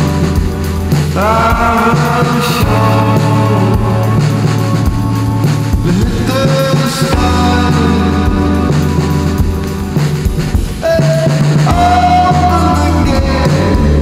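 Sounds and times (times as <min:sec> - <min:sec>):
psychedelic indie rock song: 0:00.0 - 0:14.0
steady bass: 0:00.0 - 0:14.0.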